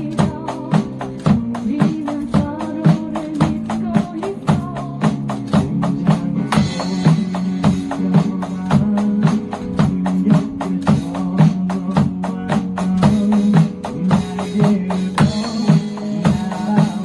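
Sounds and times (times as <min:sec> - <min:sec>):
drum kit playing: 0:00.0 - 0:17.0
recorded pop-rock song: 0:00.0 - 0:17.0.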